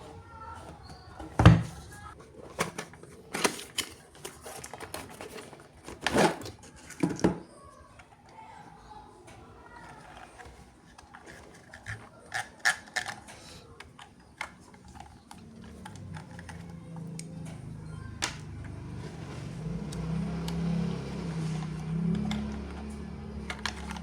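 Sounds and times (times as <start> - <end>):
toys and packaging handled: 0.5 - 24.0.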